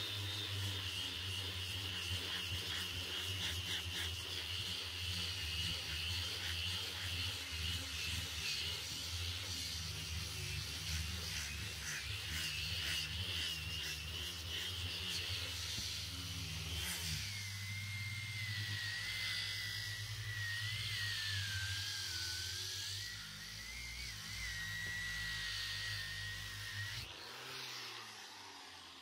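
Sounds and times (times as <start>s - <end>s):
power sander whine on wood: 0.0s - 29.0s.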